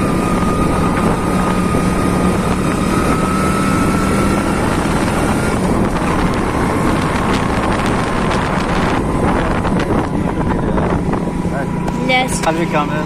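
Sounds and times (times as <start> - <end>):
dense rushing noise: 0.0 - 12.5
rising high whine: 0.0 - 13.0
vehicle engine low hum: 0.0 - 13.0.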